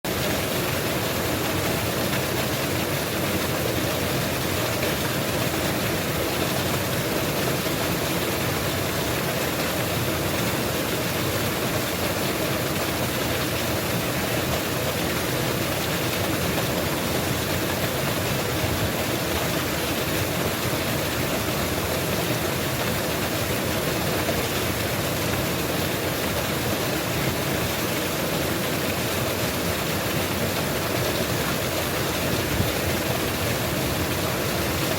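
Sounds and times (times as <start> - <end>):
waterfall pouring: 0.1 - 34.9.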